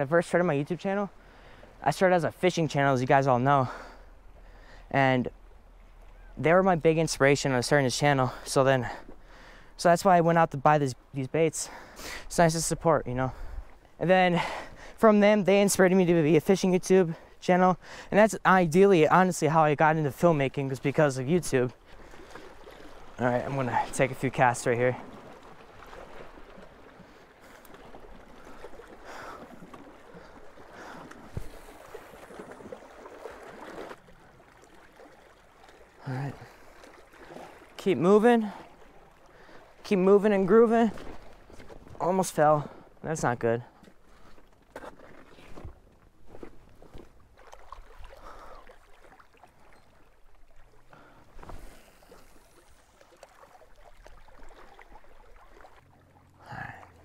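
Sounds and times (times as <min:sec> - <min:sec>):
small waves lapping on rocks: 0:00.1 - 0:57.0.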